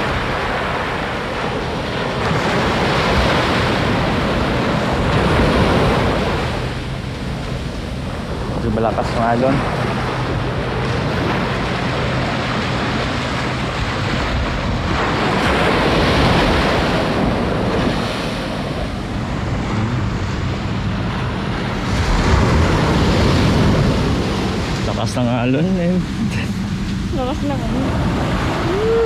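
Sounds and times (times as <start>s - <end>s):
waves breaking: 0.0s - 29.0s
wind rumbling on microphone: 0.0s - 29.0s.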